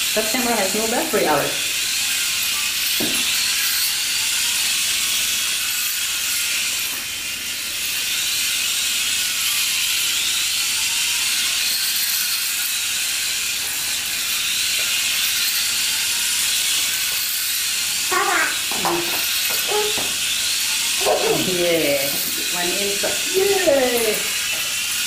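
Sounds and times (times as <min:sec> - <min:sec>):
electric motor whirring: 0:00.0 - 0:25.0.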